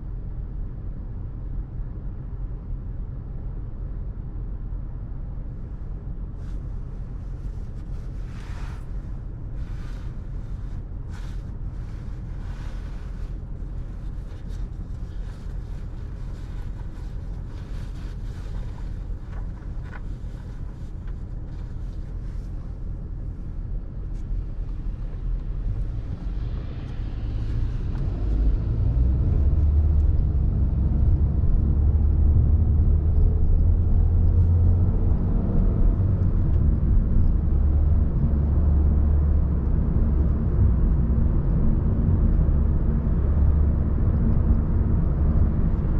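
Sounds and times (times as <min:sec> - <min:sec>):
road traffic rumble: 0:04.1 - 0:45.9.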